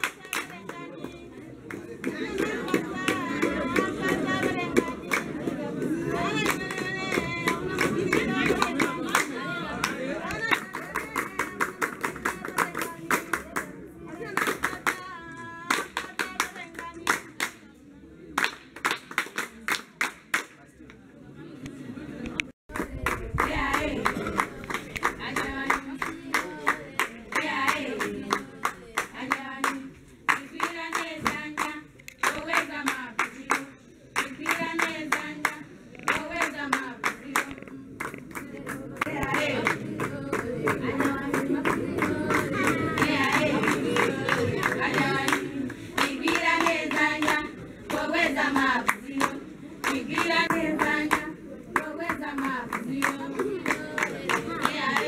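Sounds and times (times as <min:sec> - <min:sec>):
voices calling and singing: 0:00.0 - 0:17.7, 0:22.1 - 0:55.0
group clapping in rhythm: 0:00.0 - 0:20.9, 0:22.4 - 0:55.0.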